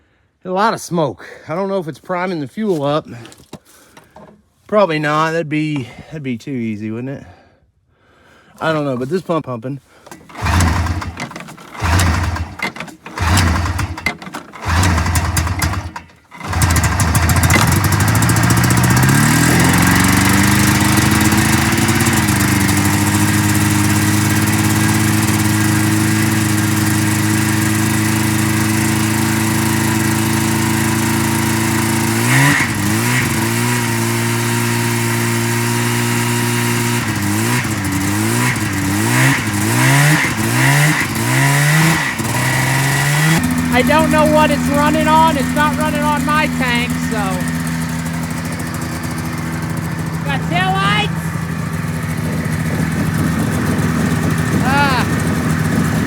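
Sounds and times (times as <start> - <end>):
snowmobile engine starting and running: 8.4 - 56.0.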